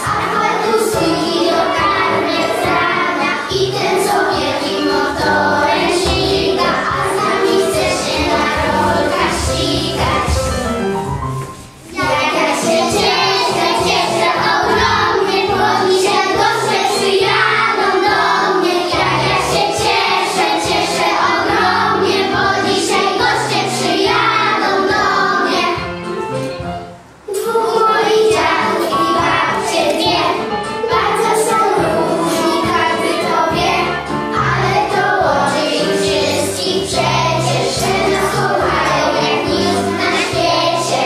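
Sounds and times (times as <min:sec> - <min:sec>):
children singing together: 0:00.0 - 0:10.7, 0:11.6 - 0:26.2, 0:27.3 - 0:41.0
instrumental accompaniment: 0:00.0 - 0:41.0.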